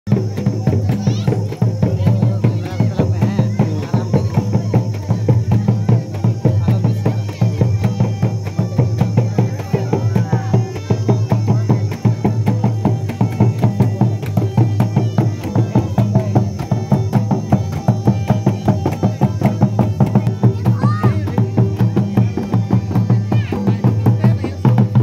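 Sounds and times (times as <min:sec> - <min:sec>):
drums beaten in fast rhythm: 0:00.1 - 0:25.0
flute melody: 0:00.1 - 0:25.0.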